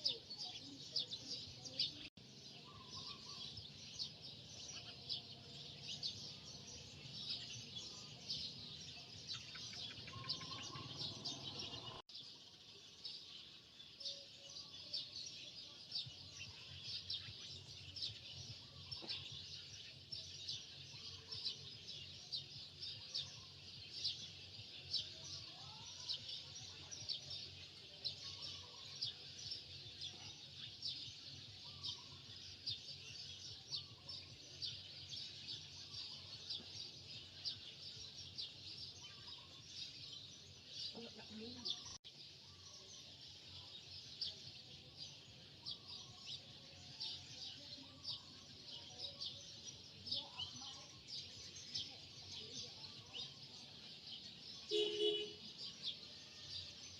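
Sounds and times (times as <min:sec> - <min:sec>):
many birds chirping: 0:00.0 - 0:56.9.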